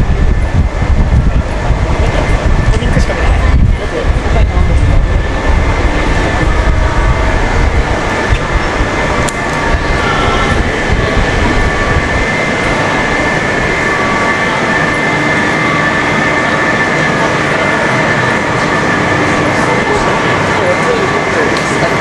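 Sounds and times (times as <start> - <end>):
steady high tones: 0.0 - 22.0
train rumbling past: 0.0 - 22.0
train tracks noise: 0.0 - 22.0.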